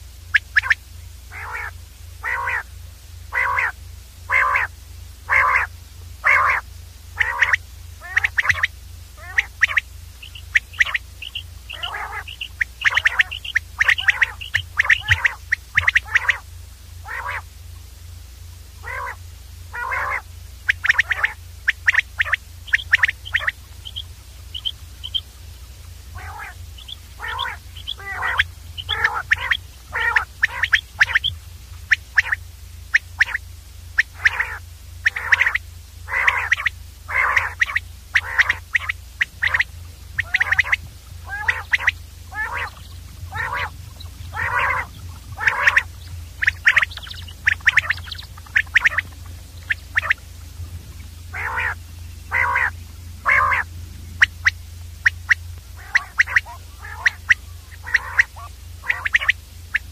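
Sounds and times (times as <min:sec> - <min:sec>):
quail calling: 0:00.0 - 0:02.7, 0:03.3 - 0:17.5, 0:18.8 - 0:59.9
steady low hum: 0:00.0 - 0:59.9.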